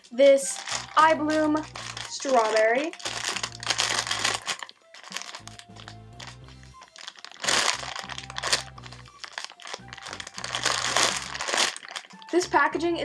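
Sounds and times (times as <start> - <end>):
plastic packaging crinkling: 0.0 - 12.6
background music: 0.0 - 13.0.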